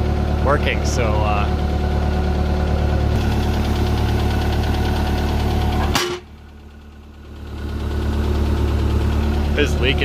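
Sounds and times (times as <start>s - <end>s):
loader engine idling: 0.0s - 10.0s.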